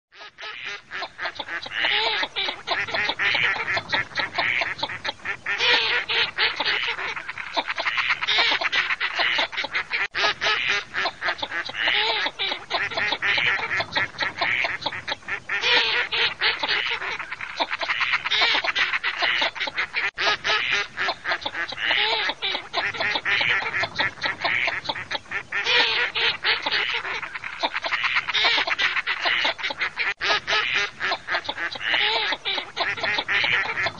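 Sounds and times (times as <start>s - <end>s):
ducks quacking: 0.2s - 33.9s.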